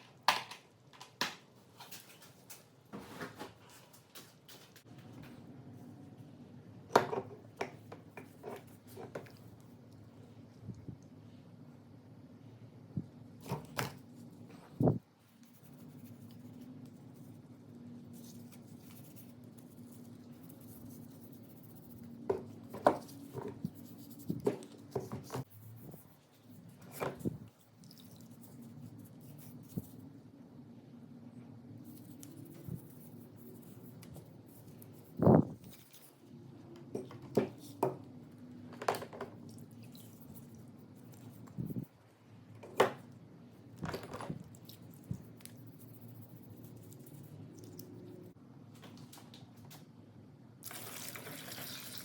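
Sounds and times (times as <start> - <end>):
steady low hum: 4.8 - 48.9.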